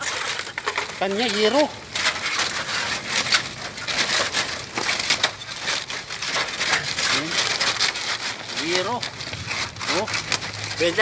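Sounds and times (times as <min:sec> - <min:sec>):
corrugated iron sheet crunching: 0:00.0 - 0:11.0
plastic sack rustling: 0:00.0 - 0:11.0.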